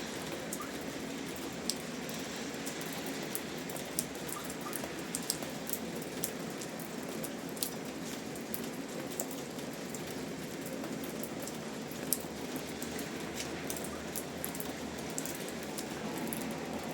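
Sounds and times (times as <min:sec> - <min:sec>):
steady rain: 0:00.0 - 0:16.9.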